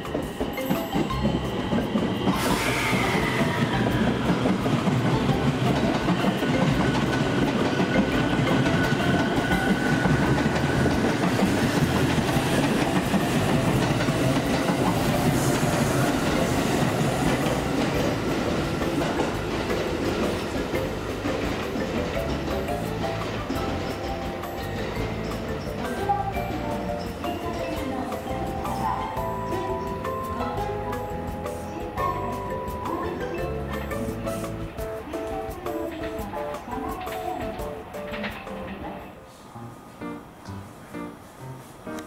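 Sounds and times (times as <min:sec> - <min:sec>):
train rumbling along track: 0:00.0 - 0:42.0.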